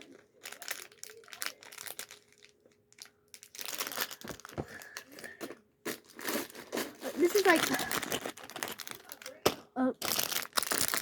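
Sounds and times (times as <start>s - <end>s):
plastic and cardboard crinkling: 0.0s - 11.0s.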